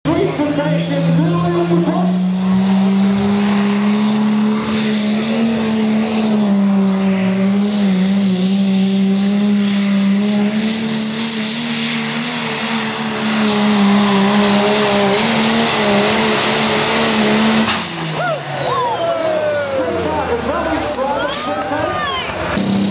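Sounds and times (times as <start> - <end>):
tractor diesel engine at full load: 0.0 - 22.9.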